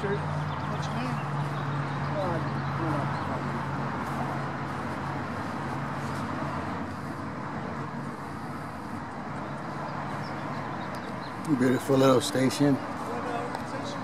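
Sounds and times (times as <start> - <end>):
outdoor traffic noise: 0.0 - 14.0.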